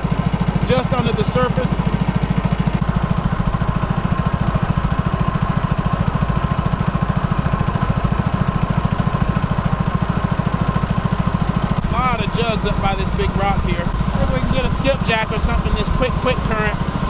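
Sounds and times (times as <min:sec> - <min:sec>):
small boat motor putter: 0:00.0 - 0:17.0.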